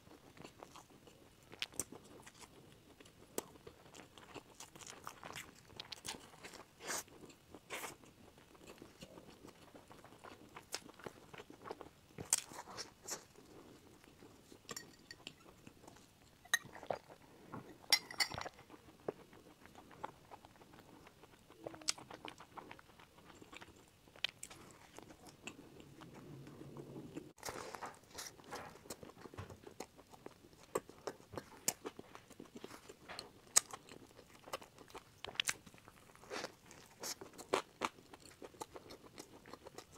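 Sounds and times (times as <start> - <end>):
person chewing crusty bread: 0.0 - 39.9.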